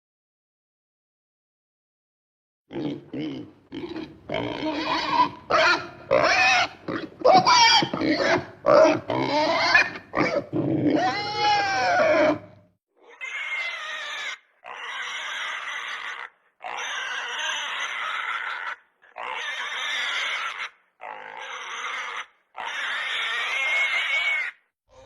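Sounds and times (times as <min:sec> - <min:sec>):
pig calling harshly: 0:02.7 - 0:25.0.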